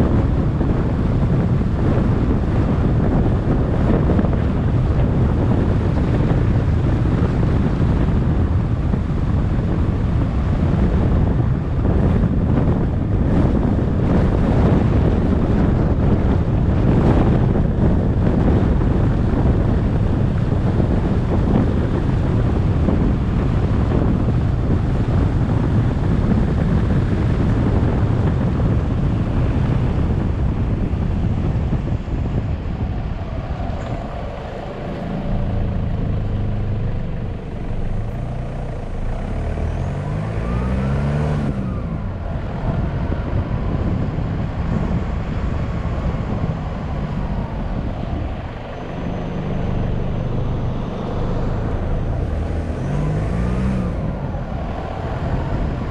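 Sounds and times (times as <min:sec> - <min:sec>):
car engine hum: 0:00.0 - 0:55.9
wind and road rumble: 0:00.0 - 0:55.9.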